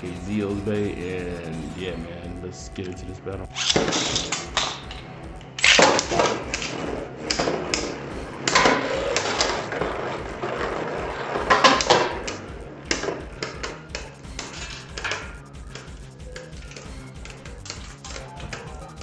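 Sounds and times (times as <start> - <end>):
spinning tops clattering and clashing: 3.5 - 19.0.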